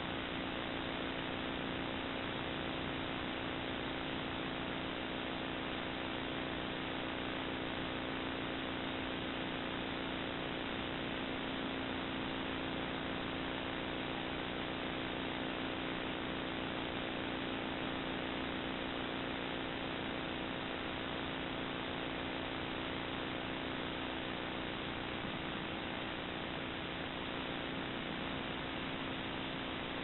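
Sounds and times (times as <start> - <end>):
electrical hum with hiss: 0.0 - 30.0.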